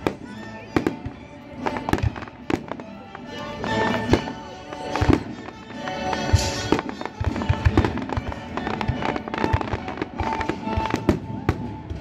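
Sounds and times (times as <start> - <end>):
fireworks bangs: 0.0 - 12.0
orchestra playing held notes: 0.0 - 12.0.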